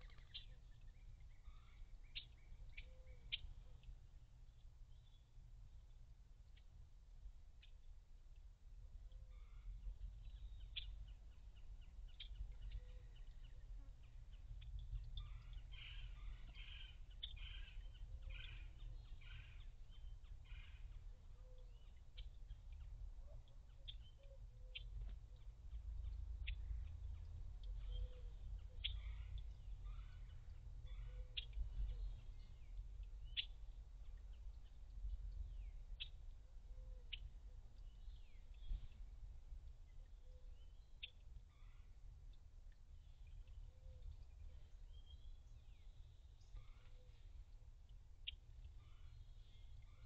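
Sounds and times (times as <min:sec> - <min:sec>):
low background noise: 0:00.0 - 0:50.0.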